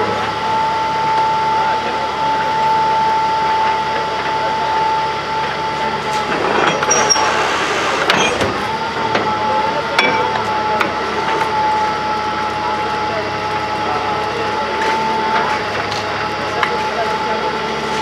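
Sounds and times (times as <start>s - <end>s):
drilling machine whine: 0.0s - 18.0s.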